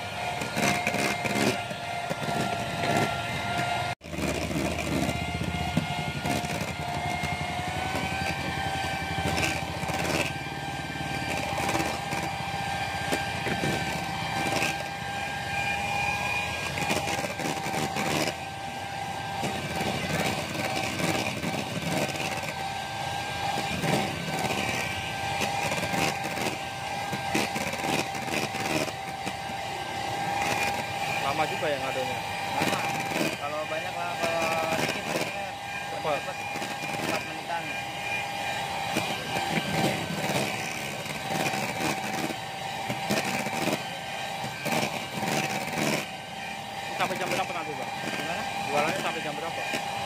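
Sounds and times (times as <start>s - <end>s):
electric mixer whining: 0.0s - 50.0s.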